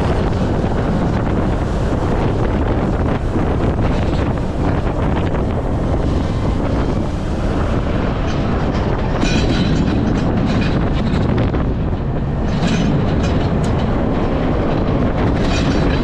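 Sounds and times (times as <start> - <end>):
heavy vehicle rumbling and rattling: 0.0 - 16.0
hissing and clattering: 0.0 - 16.0
wind rumbling on microphone: 0.0 - 16.0.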